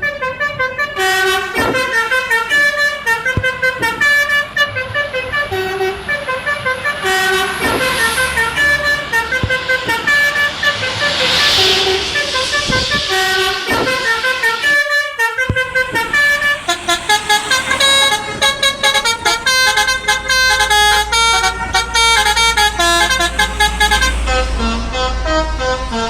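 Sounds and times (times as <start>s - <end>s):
multi-tone musical bus horn: 0.0s - 26.0s
low rumble: 1.7s - 26.0s.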